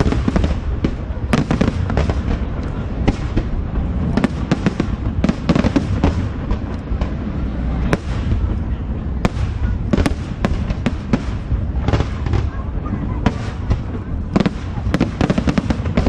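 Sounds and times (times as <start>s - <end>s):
low rumble: 0.0s - 15.0s
fireworks bangs: 0.0s - 16.0s.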